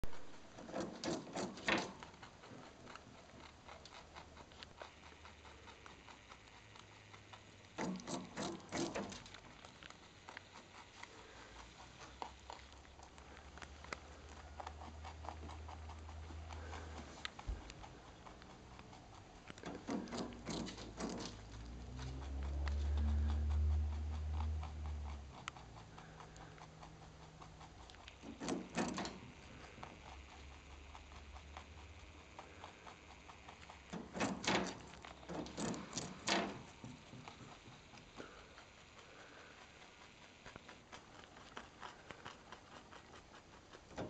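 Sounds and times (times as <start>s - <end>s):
rabbit crunching a carrot: 0.0s - 44.0s.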